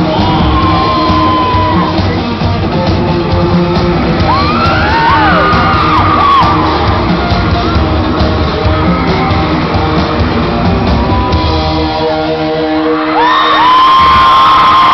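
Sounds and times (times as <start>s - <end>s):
electric guitar: 0.0s - 14.9s
live pop-rock band playing: 0.0s - 14.9s.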